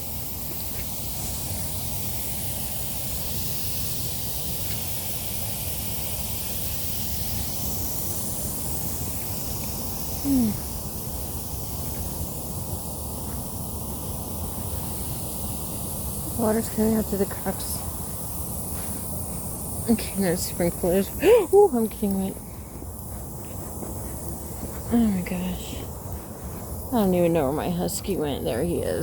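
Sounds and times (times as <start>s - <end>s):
sprinklers hissing: 0.0s - 29.0s.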